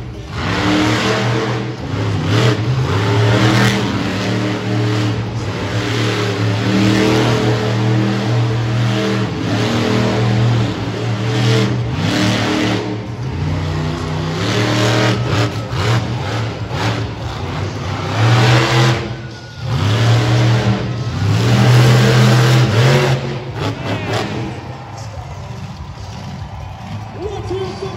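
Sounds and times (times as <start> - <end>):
truck engine revving: 0.0 - 27.9.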